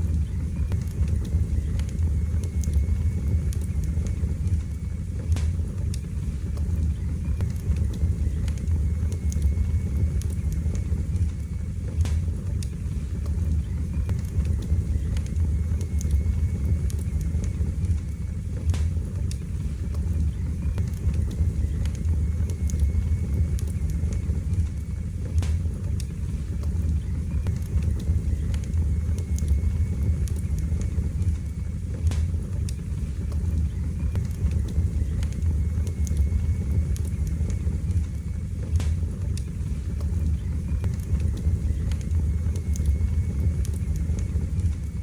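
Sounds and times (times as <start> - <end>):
fire crackling and popping: 0.0 - 45.0
wood fire rumbling: 0.0 - 45.0.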